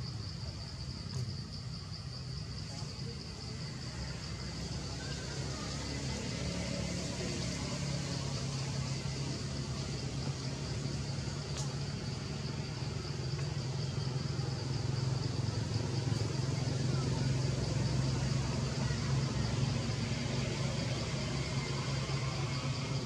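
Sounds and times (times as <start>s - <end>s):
low engine-like hum: 0.0s - 23.0s.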